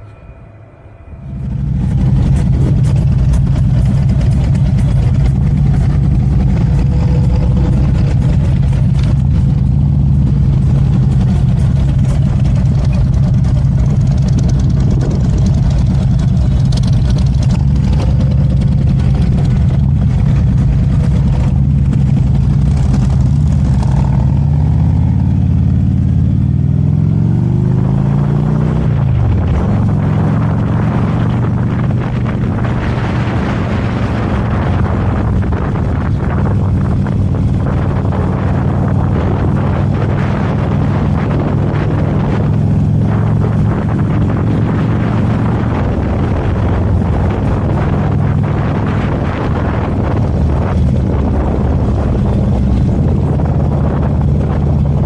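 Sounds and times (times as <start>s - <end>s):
motorcycle engine running: 1.0s - 55.0s.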